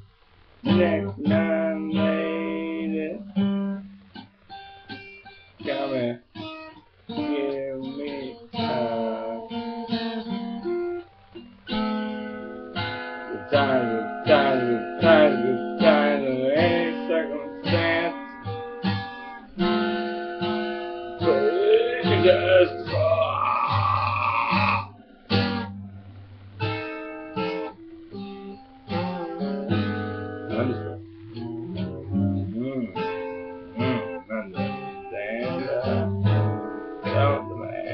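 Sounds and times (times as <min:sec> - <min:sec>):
solo guitar playing: 0:00.0 - 0:37.9.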